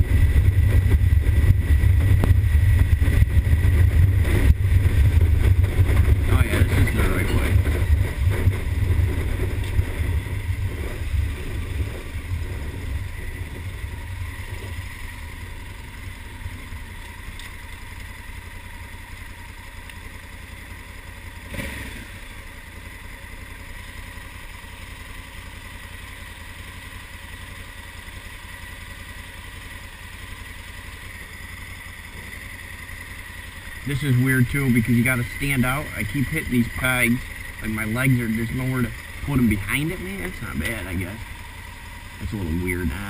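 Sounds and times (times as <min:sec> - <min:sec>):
motorcycle engine: 0:00.0 - 0:43.0
motorcycle engine idling: 0:00.0 - 0:43.0.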